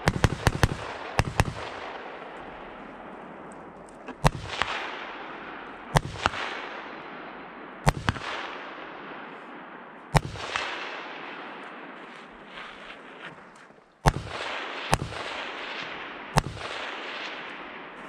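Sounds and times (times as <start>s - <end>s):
rifle shots: 0.0s - 18.0s
rolling echo off hillside: 0.0s - 18.0s.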